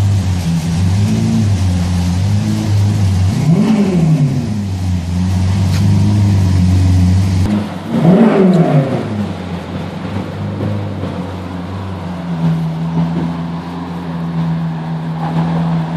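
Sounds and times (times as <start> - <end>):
car engine idling and revving: 0.0 - 15.9.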